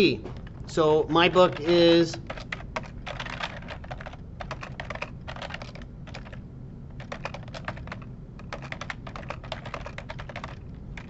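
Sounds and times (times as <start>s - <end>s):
typing on computer keyboard: 1.2s - 6.4s, 7.0s - 11.0s.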